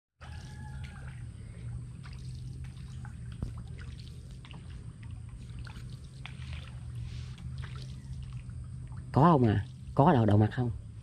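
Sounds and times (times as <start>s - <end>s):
paddle splashing in water: 0.2s - 10.3s
steady low rumble: 0.2s - 11.0s
water trickling off paddle: 0.2s - 11.0s.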